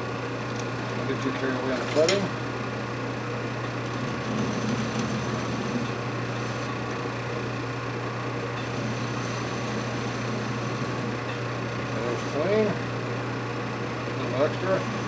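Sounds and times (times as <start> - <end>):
metal lathe motor hum: 0.0 - 12.8.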